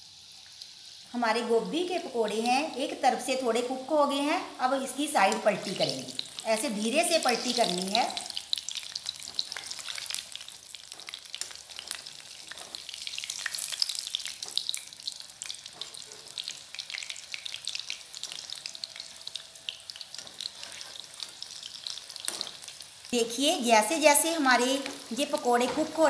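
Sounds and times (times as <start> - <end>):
food deep-frying in hot oil: 0.0 - 26.0.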